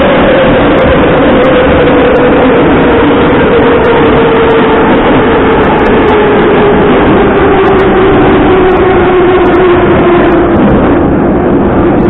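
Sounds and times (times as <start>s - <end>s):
metro train rumbling through tunnel: 0.0s - 12.0s
train whine: 0.0s - 12.0s.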